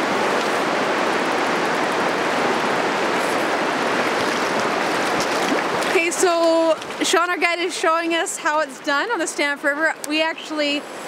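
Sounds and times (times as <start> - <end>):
fast-flowing river water rushing: 0.0 - 11.0.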